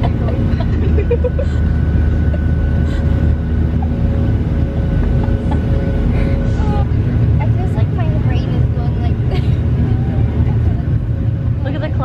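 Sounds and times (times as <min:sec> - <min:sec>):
jet engine cabin rumble: 0:00.0 - 0:12.0
whining tones: 0:00.0 - 0:12.0.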